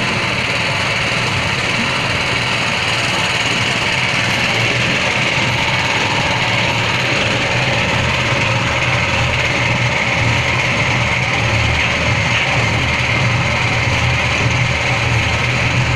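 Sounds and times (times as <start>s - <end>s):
low motor hum: 0.0s - 15.9s
mixer rushing scraping noise: 0.0s - 15.9s.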